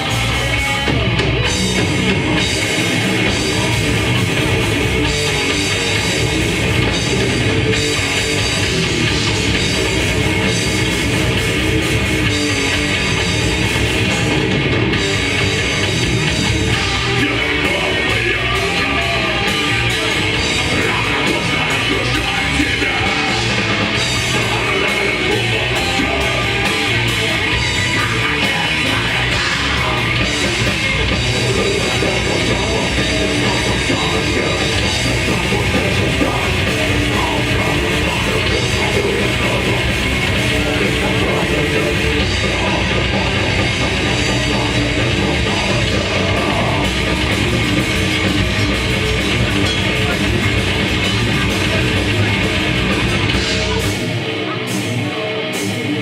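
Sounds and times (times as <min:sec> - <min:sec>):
distorted electric guitars: 0:00.0 - 0:56.0
pounding drum kit: 0:00.0 - 0:56.0.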